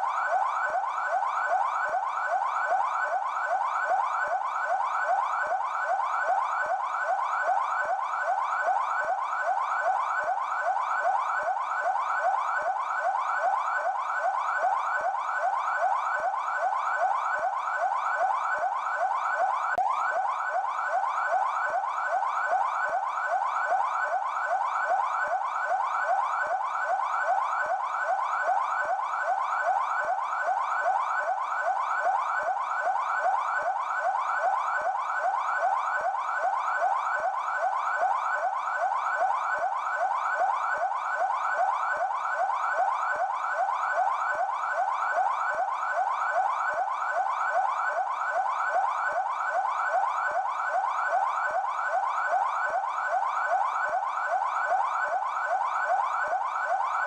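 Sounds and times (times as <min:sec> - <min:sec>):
electronic siren yelping: 0:00.0 - 0:57.0.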